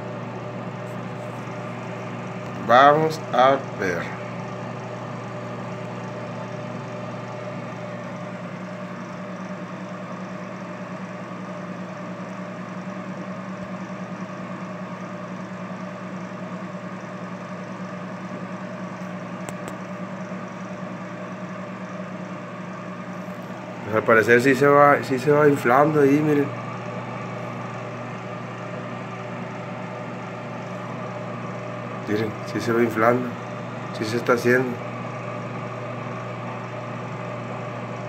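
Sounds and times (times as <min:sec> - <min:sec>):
microwave oven humming: 0:00.0 - 0:38.0.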